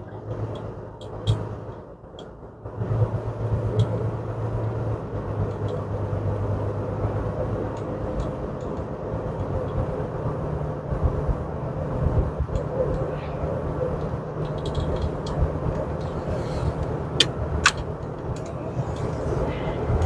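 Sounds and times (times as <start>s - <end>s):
car engine hum: 0.0s - 20.0s
tyre and road rumble: 0.0s - 20.0s.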